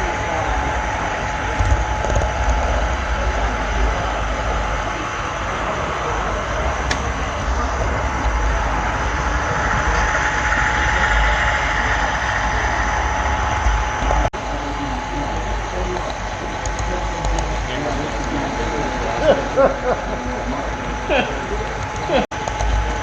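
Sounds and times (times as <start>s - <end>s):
constant whine: 0.0s - 23.0s
model train rumbling on track: 0.0s - 23.0s.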